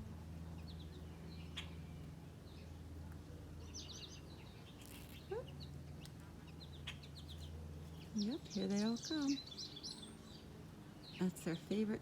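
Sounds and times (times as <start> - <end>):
small songbirds chirping: 0.3 - 12.0.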